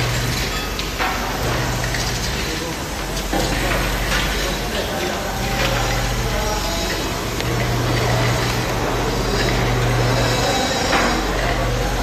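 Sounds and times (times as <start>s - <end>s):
packing machine motor hum: 0.0s - 12.0s.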